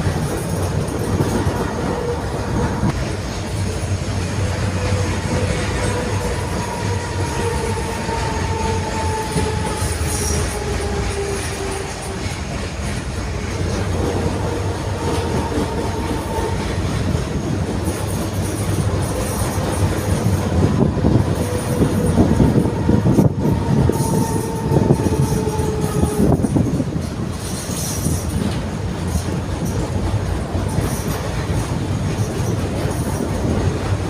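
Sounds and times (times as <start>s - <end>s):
track rattling and knocking: 0.0s - 34.0s
tram wheels rumbling on rails: 0.0s - 34.0s.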